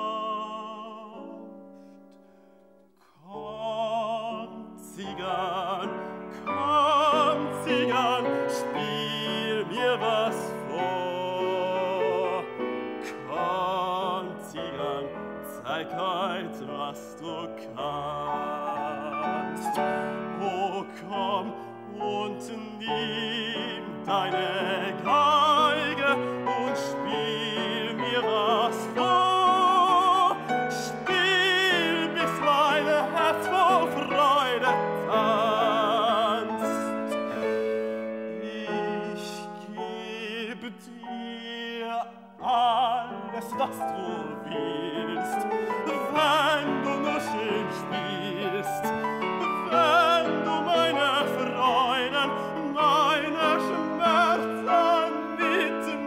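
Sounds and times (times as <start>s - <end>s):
baritone singing with vibrato: 0.0s - 1.8s, 3.1s - 56.0s
grand piano: 0.0s - 56.0s.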